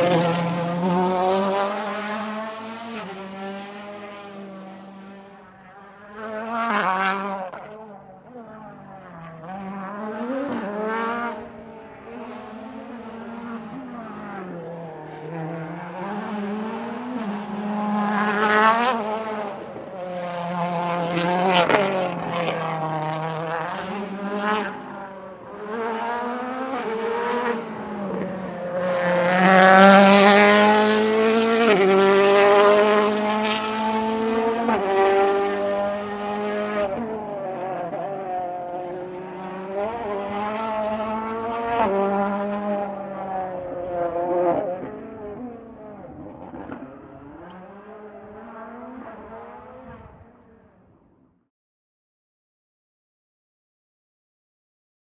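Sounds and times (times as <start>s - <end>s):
rally car engine revving: 0.0s - 50.2s.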